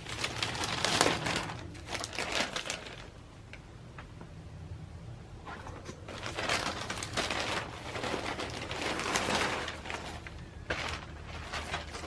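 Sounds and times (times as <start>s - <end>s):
plastic packaging crinkling: 0.0s - 3.6s, 5.5s - 12.0s.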